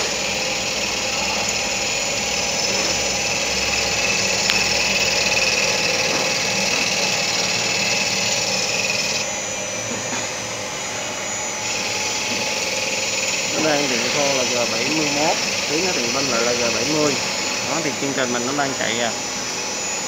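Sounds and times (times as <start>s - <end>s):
high whine of cutting tool: 0.0s - 20.0s
lathe machine noise: 0.0s - 20.0s.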